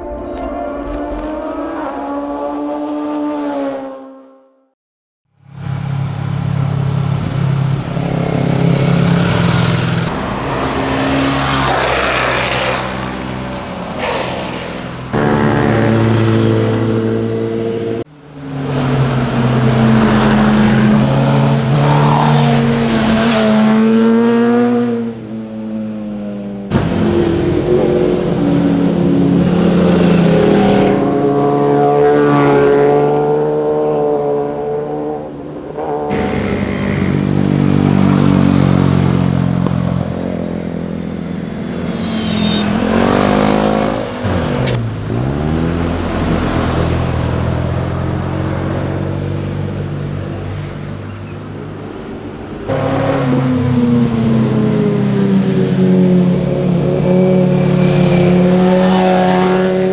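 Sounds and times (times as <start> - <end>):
motorcycles revving past: 5.6 - 25.5, 26.7 - 51.3, 52.7 - 59.9.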